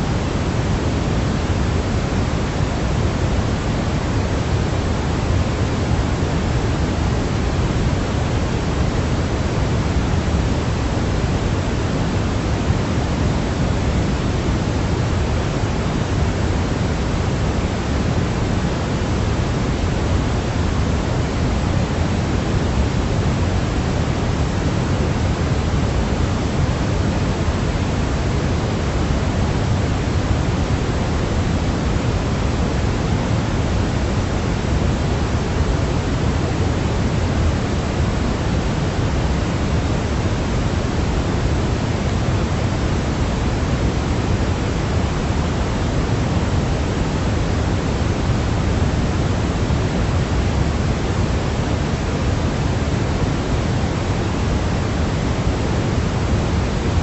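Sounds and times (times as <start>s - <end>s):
steady low hiss: 0.0s - 57.0s.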